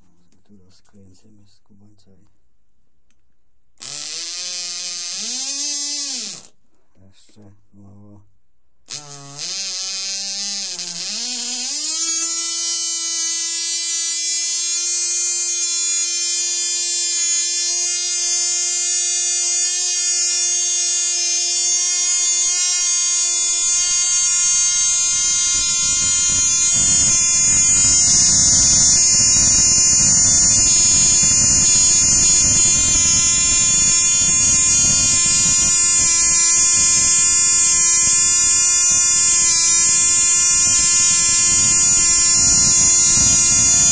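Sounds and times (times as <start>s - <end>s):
small glow engine whining: 3.8s - 6.5s, 9.1s - 43.9s.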